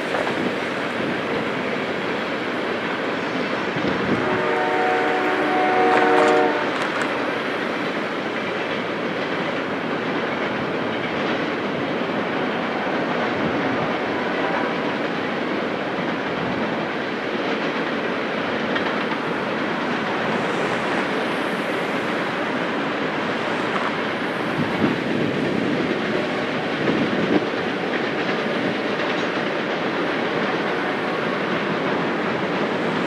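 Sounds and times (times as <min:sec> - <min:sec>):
train wheels rumbling over bridge: 0:00.0 - 0:33.0.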